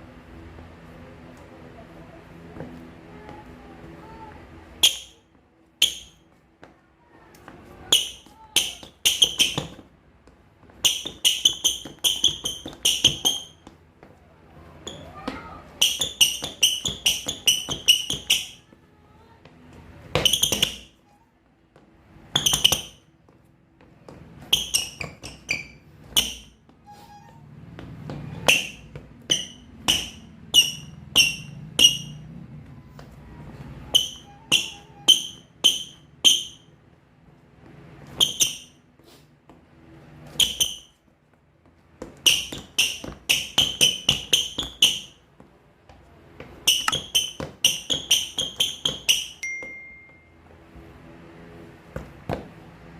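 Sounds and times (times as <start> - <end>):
shoes squeaking on court floor: 2.4 - 18.8, 19.5 - 21.2, 21.8 - 36.8, 37.6 - 52.9.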